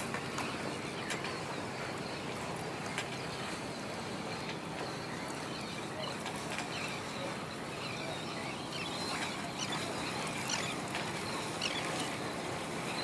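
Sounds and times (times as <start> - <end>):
water rushing past boat: 0.0 - 13.0
wind: 0.0 - 13.0.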